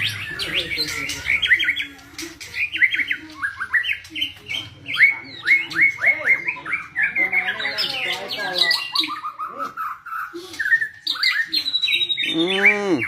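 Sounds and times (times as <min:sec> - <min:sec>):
bird singing chirping notes: 0:00.0 - 0:13.0.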